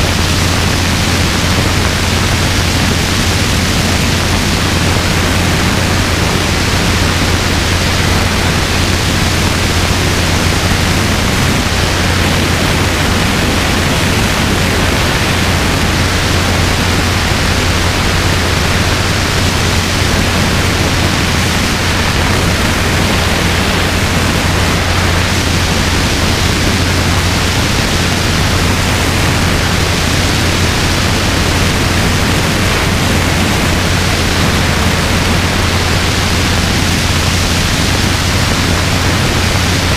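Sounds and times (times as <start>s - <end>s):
helicopter rotor and engine drone: 0.0s - 39.9s
wind rushing on microphone: 0.0s - 39.9s.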